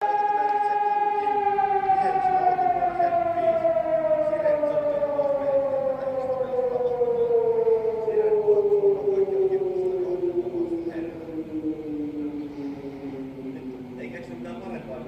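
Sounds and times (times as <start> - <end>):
lower siren tone: 0.0 - 15.0
siren tone sliding down: 0.0 - 15.0.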